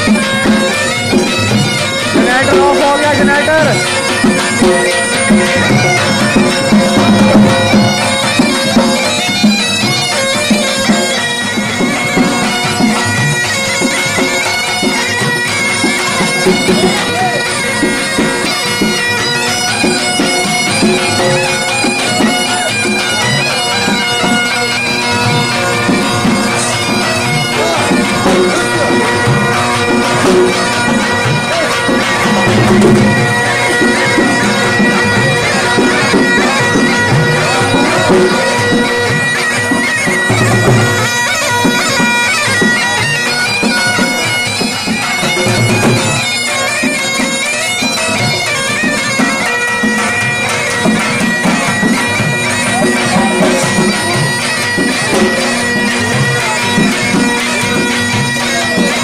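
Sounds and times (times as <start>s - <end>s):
dhol drum beating: 0.0s - 59.0s
reed wind instrument melody: 0.0s - 59.0s.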